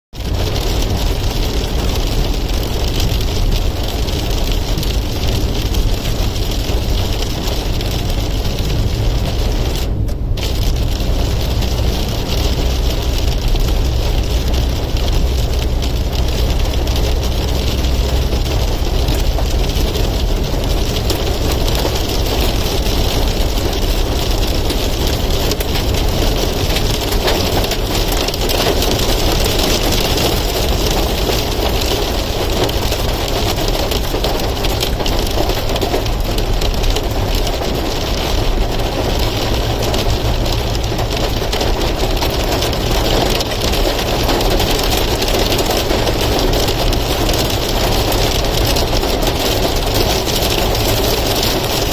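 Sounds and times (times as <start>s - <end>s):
hailstones pelting: 0.2s - 51.9s
vehicle rumble: 0.2s - 51.9s.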